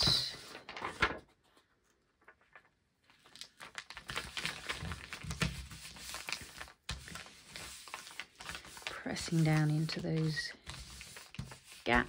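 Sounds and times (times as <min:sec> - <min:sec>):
dry paper rustling and crinkling: 0:00.0 - 0:12.0.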